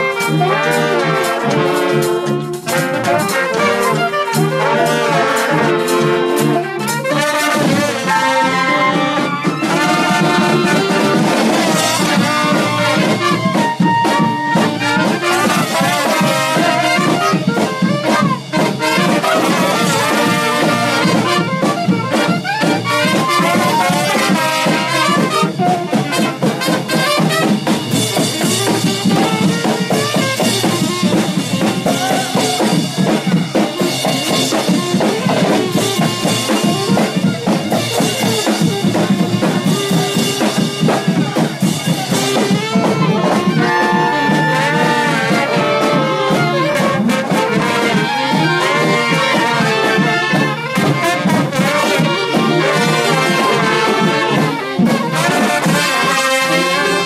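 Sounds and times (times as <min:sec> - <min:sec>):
brass band playing: 0:00.0 - 0:57.0
drum kit: 0:00.0 - 0:57.0.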